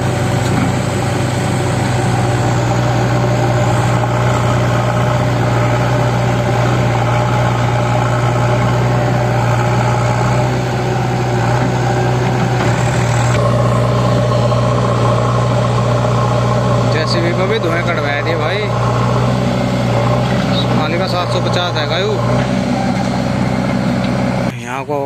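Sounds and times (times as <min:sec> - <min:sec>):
tractor diesel engine humming: 0:00.0 - 0:25.0.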